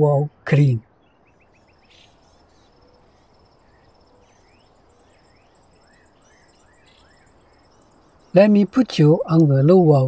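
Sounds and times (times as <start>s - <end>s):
bird pulsing trill: 0.8s - 9.4s.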